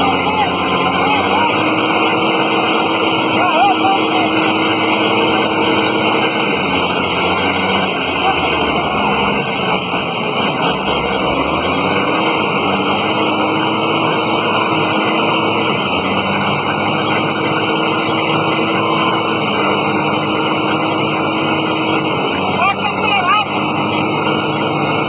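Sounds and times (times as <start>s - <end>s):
loud rushing noise: 0.0s - 25.0s.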